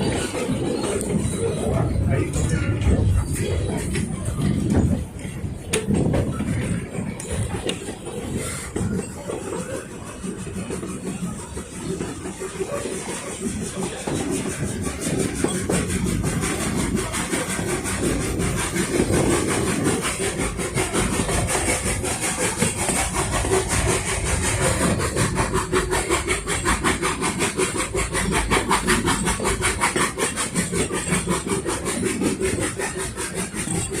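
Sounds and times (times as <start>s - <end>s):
steam train rhythmic beat: 0.0s - 34.0s.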